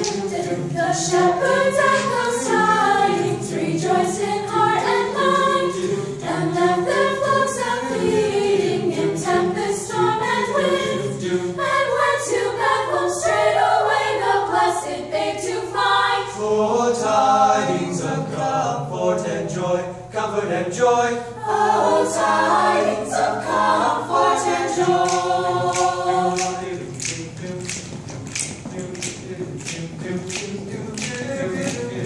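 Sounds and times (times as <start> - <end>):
choir singing a cappella: 0.0 - 32.0.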